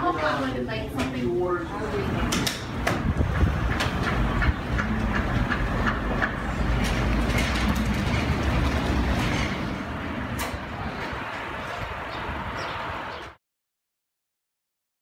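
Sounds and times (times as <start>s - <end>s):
city street rumble: 0.0s - 13.4s.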